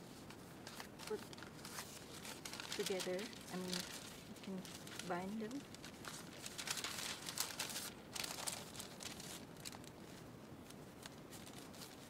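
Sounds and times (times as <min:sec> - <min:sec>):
paper sheets rustling: 0:00.1 - 0:12.0.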